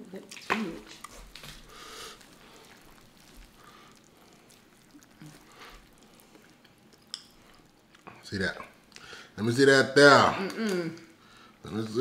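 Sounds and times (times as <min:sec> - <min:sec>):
wet squishing of food: 0:00.0 - 0:12.0.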